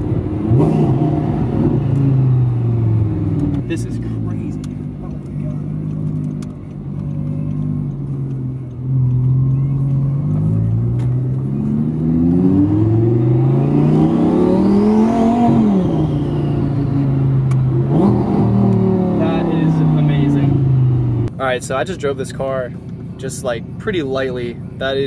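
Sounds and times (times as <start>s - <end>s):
car engine accelerating: 0.0s - 21.9s.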